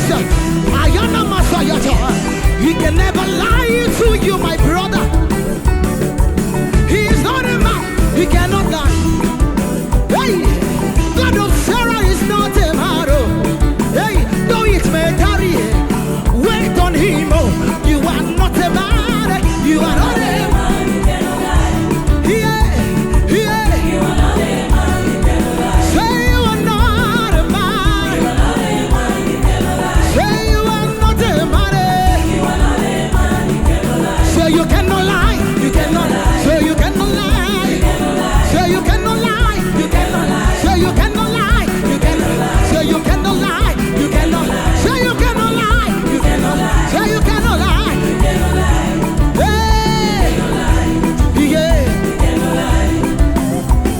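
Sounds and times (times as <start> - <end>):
driving drum beat: 0.0 - 53.9
gospel singing: 0.0 - 53.9.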